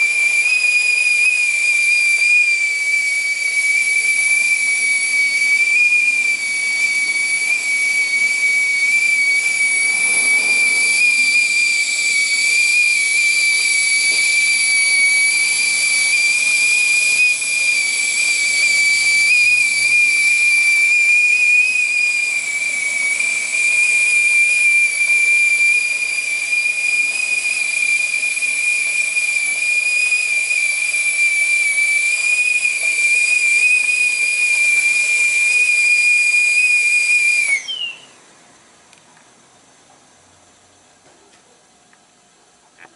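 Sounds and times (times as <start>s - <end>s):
kettle steam whistle: 0.0s - 38.3s.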